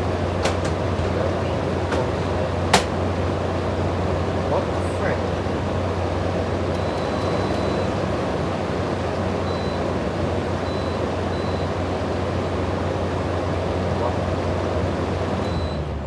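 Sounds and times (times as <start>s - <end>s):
air conditioner fan rushing air: 0.0s - 16.0s.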